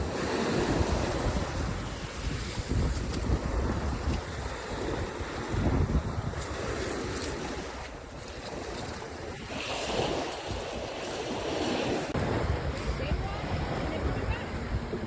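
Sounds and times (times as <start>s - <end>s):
small waves washing on beach: 0.0s - 15.0s
wind buffeting microphone: 0.0s - 15.0s.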